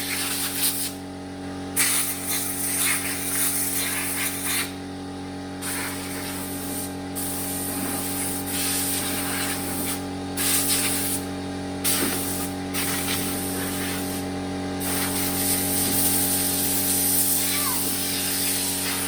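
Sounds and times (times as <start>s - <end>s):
compressed air hissing from nozzle: 0.0s - 1.0s, 1.8s - 4.8s, 5.6s - 19.0s
air compressor humming: 0.0s - 19.0s.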